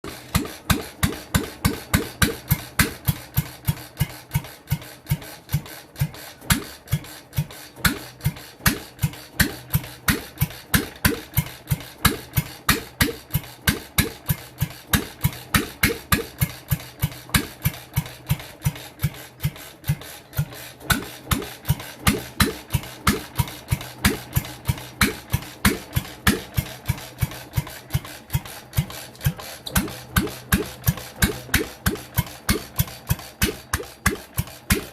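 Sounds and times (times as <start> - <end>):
stationary engine running: 0.0 - 34.9.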